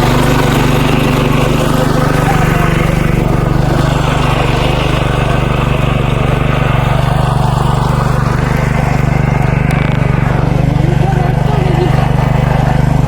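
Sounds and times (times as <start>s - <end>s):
power tiller engine running: 0.0s - 13.0s.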